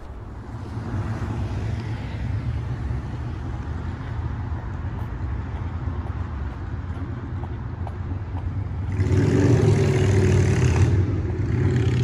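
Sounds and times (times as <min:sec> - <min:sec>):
rumble of passing cars: 0:00.0 - 0:12.0.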